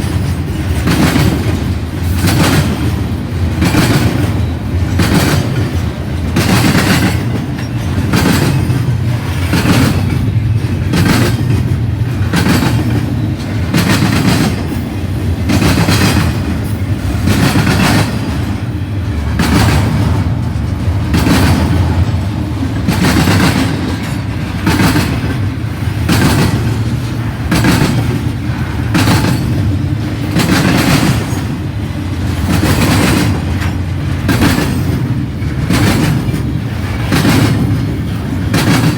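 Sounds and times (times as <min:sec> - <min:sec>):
freight train rumbling past: 0:00.0 - 0:38.9
wheels clattering over rail joints: 0:00.0 - 0:38.9.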